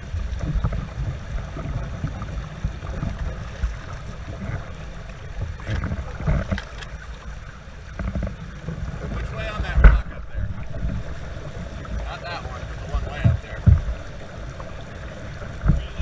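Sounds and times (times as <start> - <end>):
paddle knocks and splashes: 0.0 - 16.0
wind rumble on microphone: 0.0 - 16.0.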